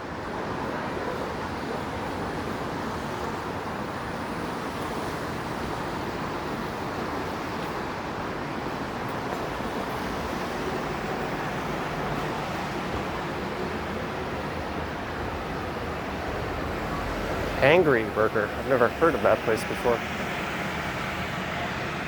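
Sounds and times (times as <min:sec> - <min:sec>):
rain: 0:00.0 - 0:22.0
traffic passing on wet road: 0:00.0 - 0:22.0.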